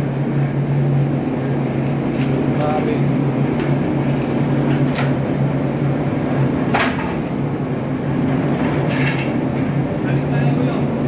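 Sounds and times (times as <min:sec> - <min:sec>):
engine room machinery drone: 0:00.0 - 0:11.0.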